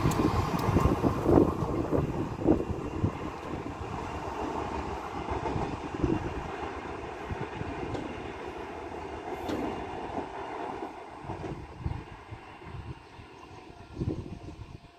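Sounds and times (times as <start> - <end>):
train wheels rumbling and clattering: 0.0 - 14.5.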